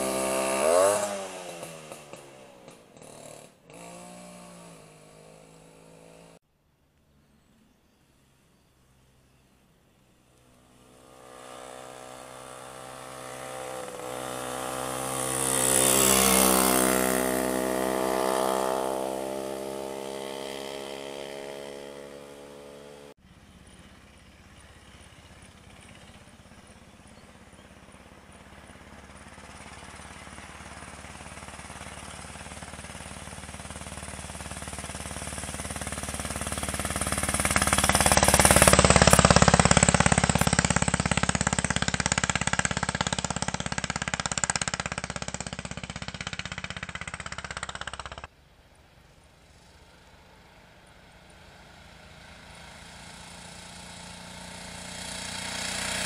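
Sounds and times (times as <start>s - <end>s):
motorcycle engines passing: 0.0s - 6.4s, 10.3s - 48.3s, 49.1s - 56.0s.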